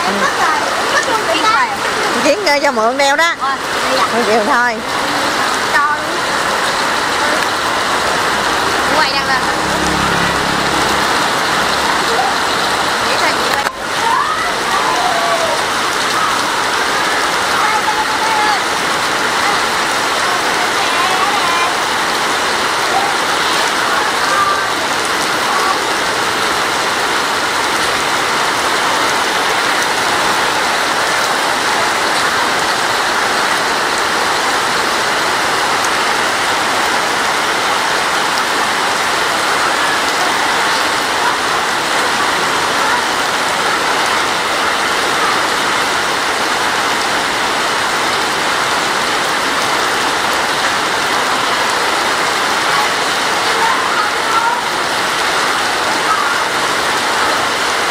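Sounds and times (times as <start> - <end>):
heavy rain on road: 0.0 - 57.9.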